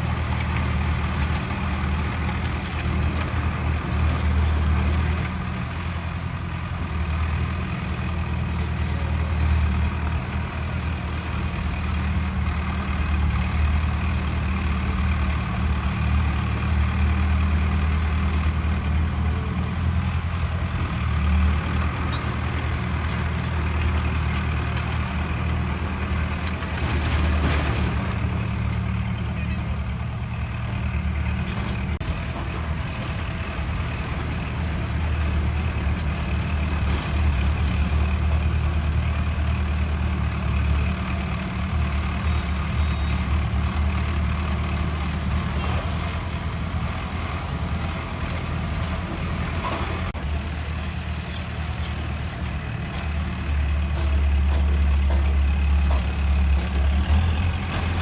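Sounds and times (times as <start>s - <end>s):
heavy diesel machinery engine drone: 0.0s - 58.0s.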